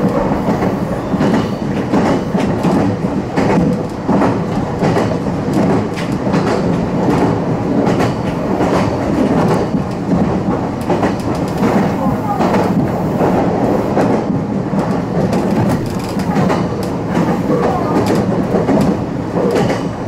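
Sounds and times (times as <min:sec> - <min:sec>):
train rumbling on track: 0:00.0 - 0:20.0
wheels clicking over rail joints: 0:00.0 - 0:20.0.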